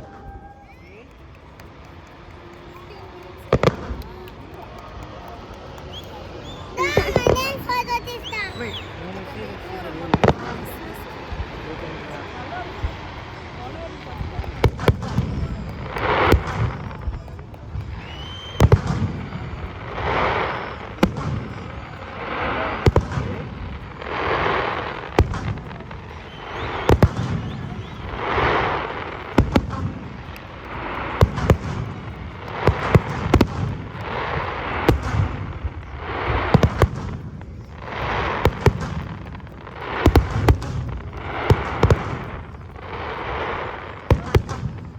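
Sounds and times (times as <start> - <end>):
fireworks banging: 0.0 - 44.9.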